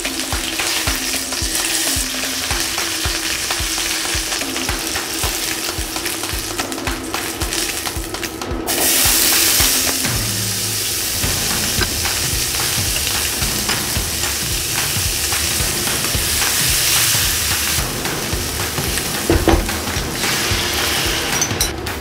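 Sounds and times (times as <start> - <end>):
vegetables sizzling in hot oil: 0.0 - 8.0, 8.7 - 21.7.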